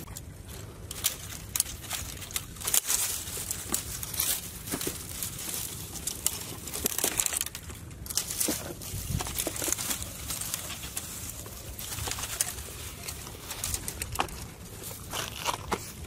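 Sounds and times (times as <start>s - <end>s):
dry branches rustling: 0.0s - 16.0s
twigs cracking: 0.0s - 16.0s.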